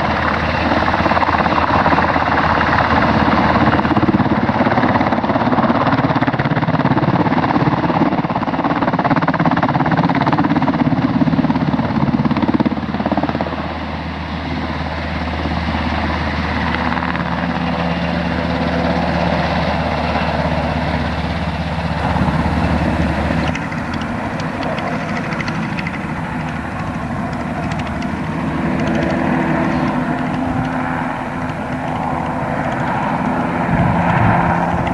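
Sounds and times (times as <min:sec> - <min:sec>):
helicopters flying low overhead: 0:00.0 - 0:34.9.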